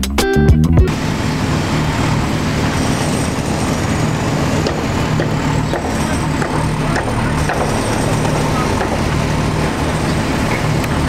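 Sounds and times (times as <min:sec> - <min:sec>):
even rushing noise: 0:00.9 - 0:11.0
steady low hum: 0:00.9 - 0:11.0.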